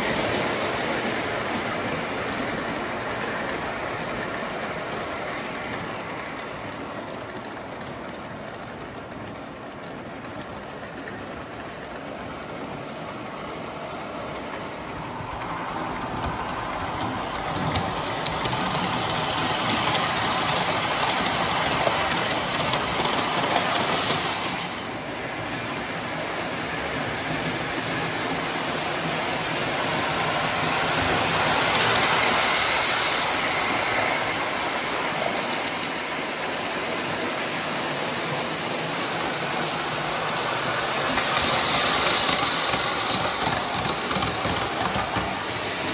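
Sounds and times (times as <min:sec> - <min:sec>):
model train wheels rattling on rails: 0:00.0 - 0:45.9.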